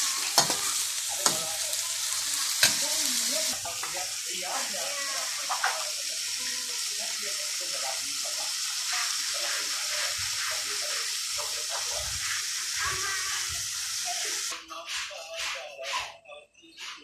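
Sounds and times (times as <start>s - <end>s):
fern shoots sizzling in a pan: 0.0s - 14.6s.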